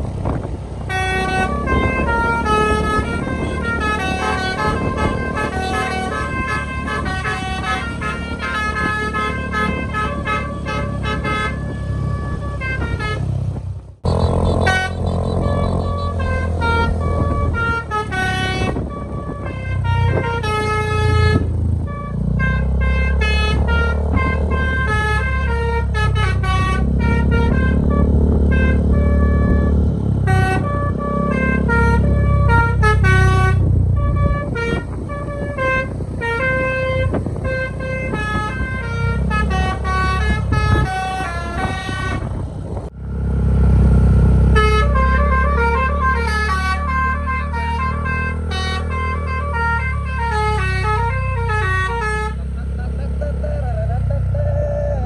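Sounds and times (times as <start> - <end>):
bus engine rumbling: 0.0 - 55.0
multi-tone bus horn melody: 0.2 - 42.9, 44.2 - 55.0.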